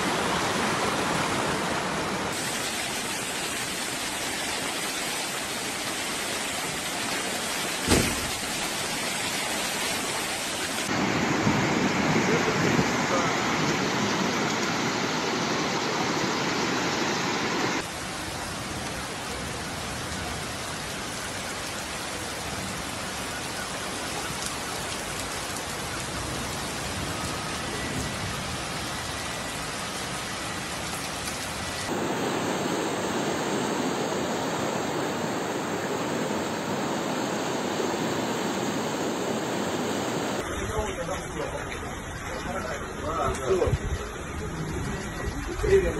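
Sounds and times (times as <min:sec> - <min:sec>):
floodwater rushing: 0:00.0 - 0:45.9
rain: 0:00.0 - 0:45.9.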